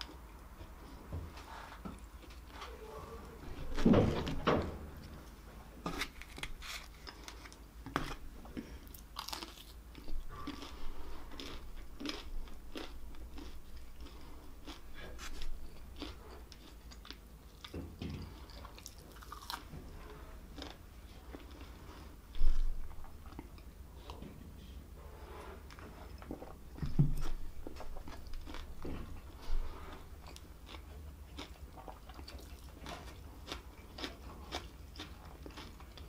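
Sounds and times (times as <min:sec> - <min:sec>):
crunchy chewing of fried shrimp: 0:05.8 - 0:24.3, 0:25.2 - 0:36.0.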